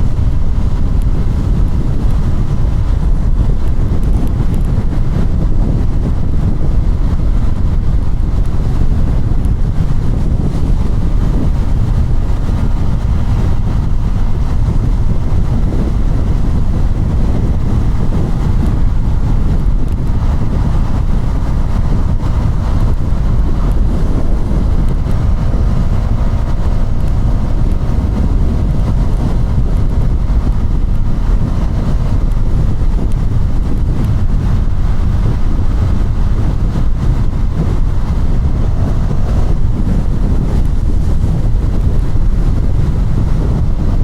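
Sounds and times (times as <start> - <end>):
motorcycle engine: 0.0 - 44.0
wind rumble on microphone: 0.0 - 44.0.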